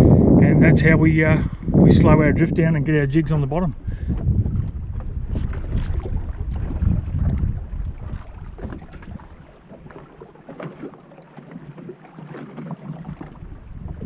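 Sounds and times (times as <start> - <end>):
wind buffeting microphone: 0.0 - 10.9, 12.8 - 14.0
water lapping against boat hull: 0.7 - 14.0.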